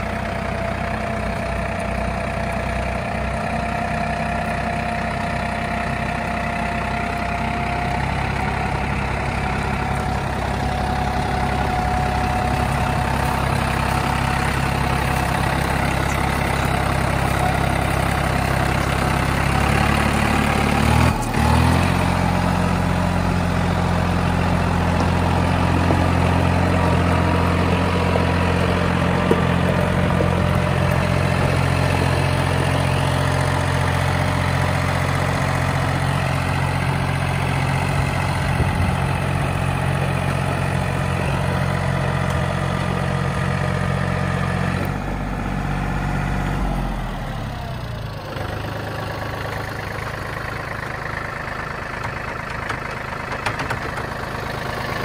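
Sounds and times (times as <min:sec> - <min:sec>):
tractor diesel engine passing: 0:00.0 - 0:55.0.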